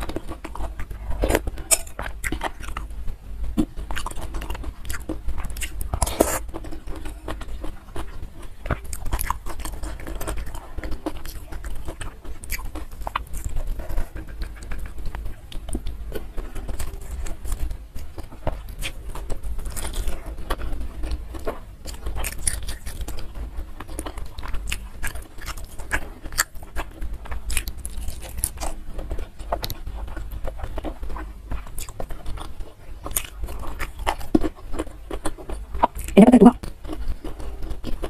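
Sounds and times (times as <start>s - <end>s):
close chewing with crunches: 0.0s - 38.0s.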